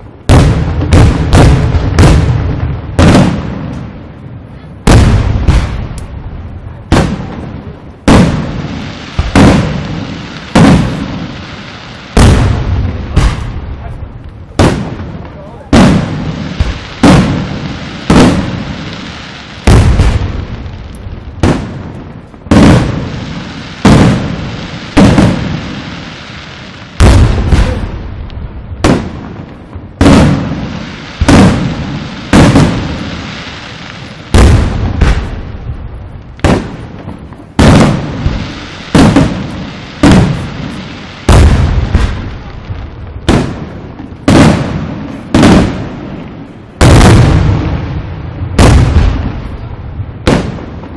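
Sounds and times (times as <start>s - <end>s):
firework shells bursting with echo: 0.0s - 50.9s.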